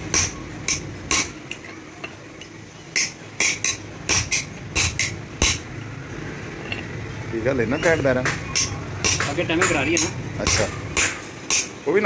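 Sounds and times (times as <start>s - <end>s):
hammer tapping steel drift: 0.0s - 5.9s, 7.8s - 12.0s.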